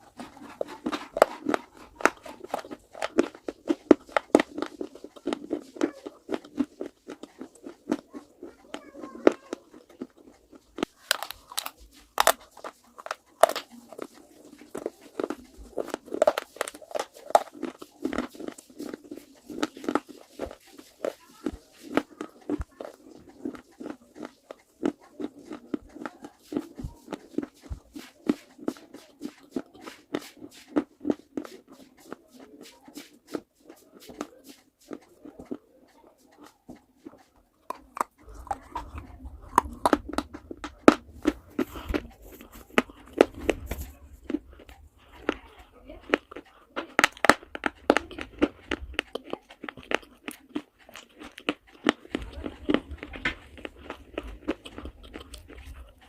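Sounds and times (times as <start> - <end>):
clay pieces crunching in chewing: 0.0 - 56.0.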